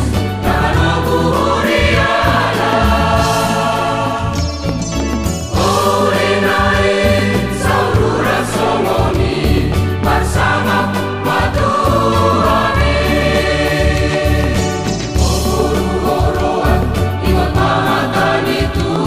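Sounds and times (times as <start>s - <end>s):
choir singing: 0.0s - 4.8s, 5.5s - 19.0s
low accompaniment: 0.0s - 19.0s.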